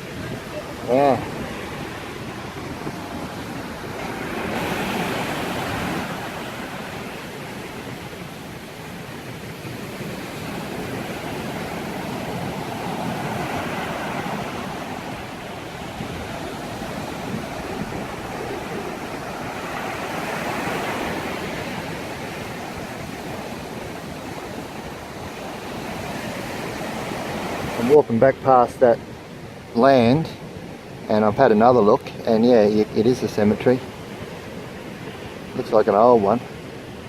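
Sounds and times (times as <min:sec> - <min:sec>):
sea waves washing onto beach: 0:00.0 - 0:37.0.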